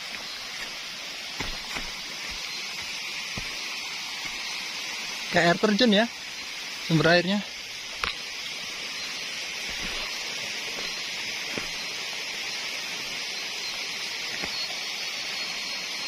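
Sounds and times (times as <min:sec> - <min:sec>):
faint thin whine: 0:00.0 - 0:16.0
forest ambience hiss: 0:00.0 - 0:16.0.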